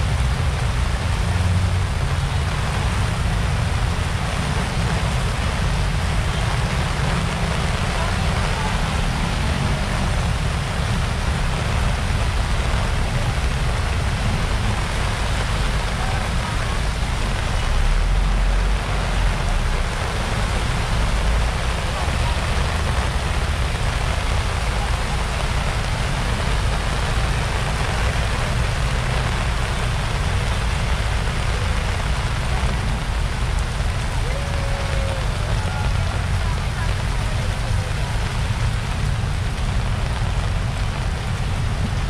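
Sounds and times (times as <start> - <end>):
heavy rain pouring: 0.0 - 42.0
strong low rumble: 0.0 - 42.0.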